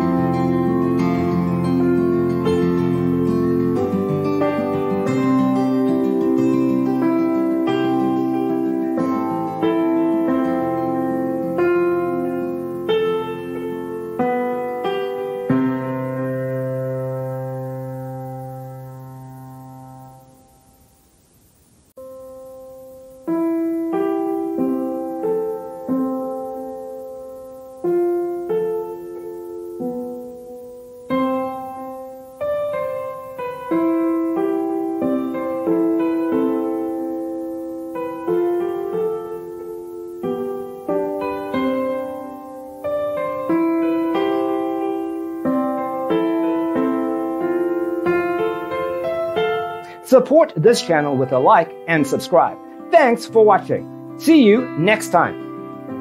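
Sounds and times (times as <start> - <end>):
gentle piano music: 0.0 - 20.8, 22.0 - 56.0.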